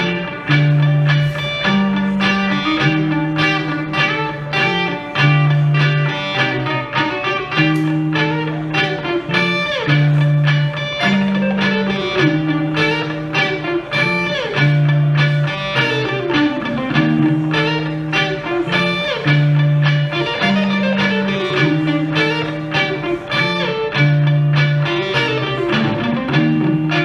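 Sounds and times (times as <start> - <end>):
electric guitar music: 0.0 - 27.0.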